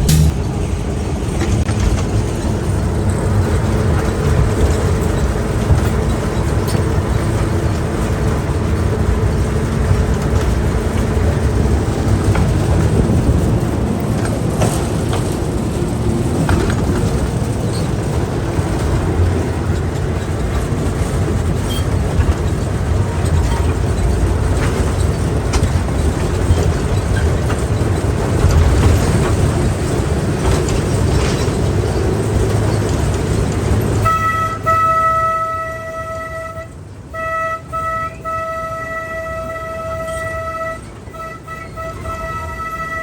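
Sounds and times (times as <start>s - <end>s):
small train rumbling: 0.0s - 43.0s.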